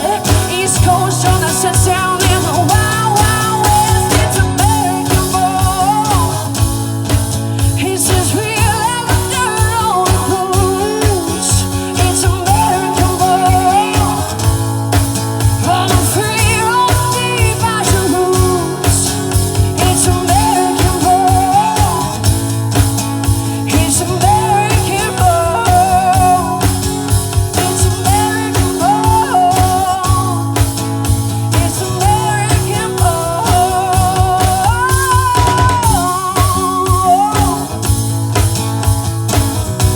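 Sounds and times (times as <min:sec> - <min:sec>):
person singing lead vocal: 0:00.0 - 0:38.4
drum beat: 0:00.0 - 0:39.9
guitar: 0:00.0 - 0:39.9.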